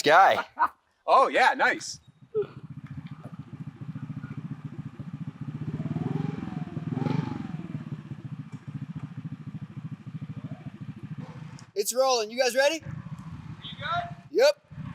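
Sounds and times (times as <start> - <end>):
go-kart engine idling: 1.9 - 14.9.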